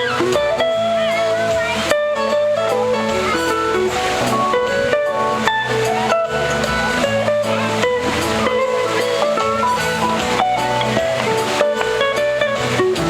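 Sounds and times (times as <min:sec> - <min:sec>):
guitar plucked and strummed: 0:00.0 - 0:13.0
repeating bass notes: 0:00.0 - 0:13.0.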